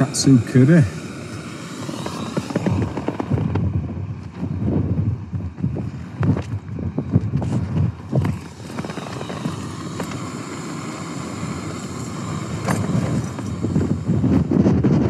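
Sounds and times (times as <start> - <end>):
gas stove roaring hiss: 0.0 - 15.0
wind buffeting microphone: 0.0 - 15.0.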